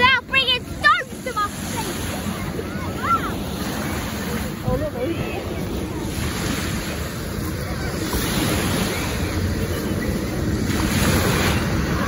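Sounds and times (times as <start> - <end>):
hovercraft propellers droning: 0.0 - 12.0
wind on microphone: 1.3 - 12.0.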